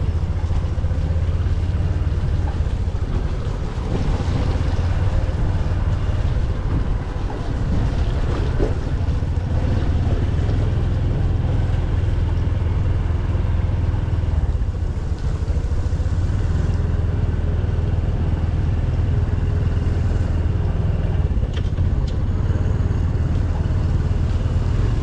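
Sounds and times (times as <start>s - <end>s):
engine running low: 0.0s - 25.0s.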